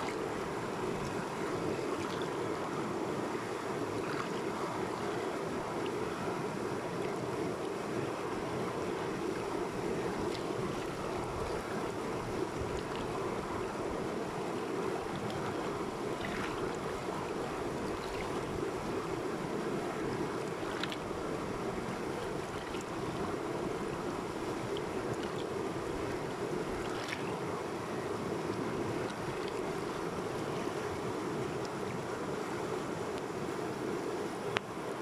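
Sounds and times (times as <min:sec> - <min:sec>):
small water splashes: 0:00.0 - 0:02.8, 0:03.8 - 0:06.3, 0:07.0 - 0:32.0
river rushing over rocks: 0:00.0 - 0:35.0.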